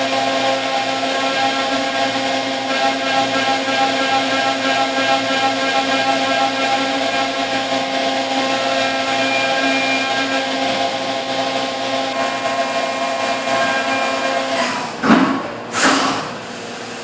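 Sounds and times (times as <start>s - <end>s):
machine spindle whine: 0.0s - 15.1s.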